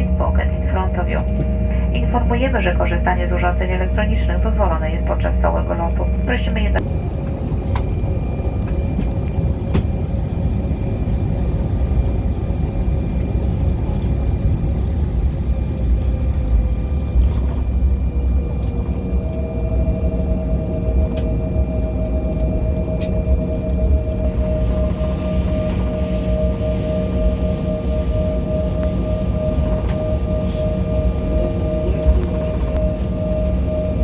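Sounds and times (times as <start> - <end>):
engine whine: 0.0 - 34.0
higher whine: 0.0 - 34.0
jet engine cabin rumble: 0.0 - 34.0.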